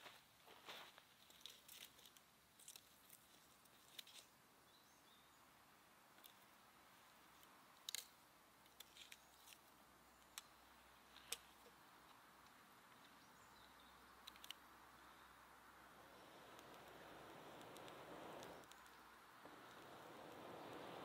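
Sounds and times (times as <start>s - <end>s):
campfire crackles: 0.0s - 4.6s, 5.6s - 21.0s
soft fire hiss: 0.0s - 21.0s.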